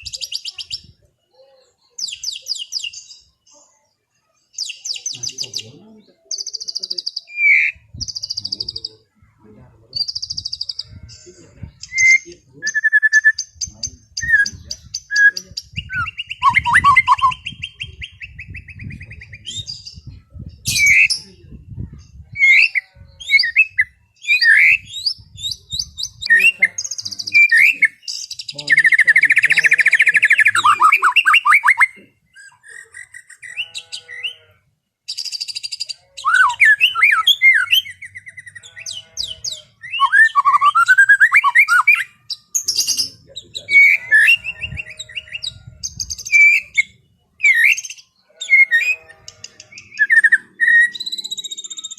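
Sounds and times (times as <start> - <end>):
bird trill: 0.0 - 3.6, 4.2 - 9.1, 9.9 - 21.4, 22.0 - 51.9
bird singing varied song: 0.0 - 51.9.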